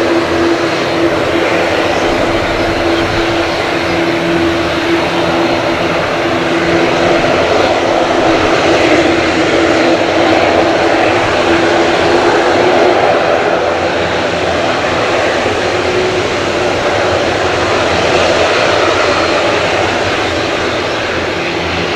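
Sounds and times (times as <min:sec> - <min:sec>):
jet engines passing close by: 0:00.0 - 0:21.9.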